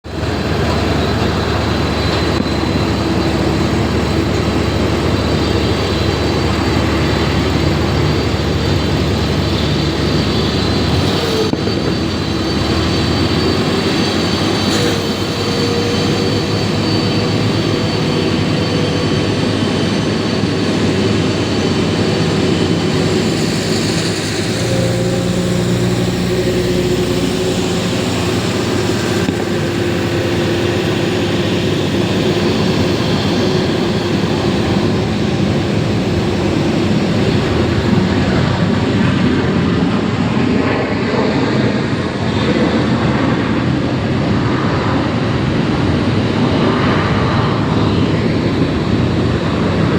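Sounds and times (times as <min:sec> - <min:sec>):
jet engines whining and rumbling: 0:00.0 - 0:49.9.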